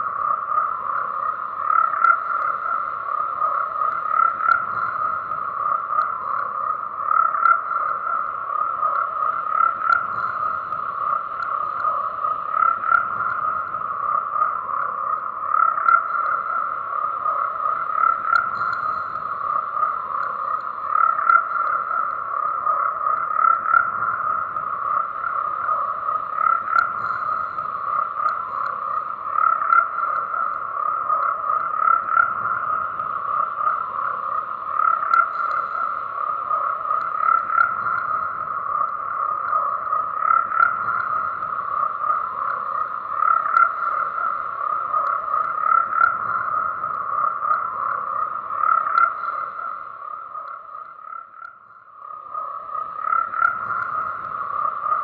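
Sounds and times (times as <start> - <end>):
frogs croaking in chorus: 0.0 - 55.0.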